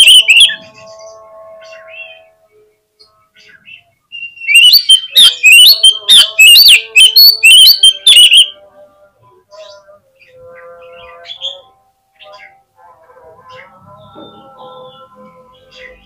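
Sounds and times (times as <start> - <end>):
bird singing: 0.0 - 12.7, 13.4 - 16.0.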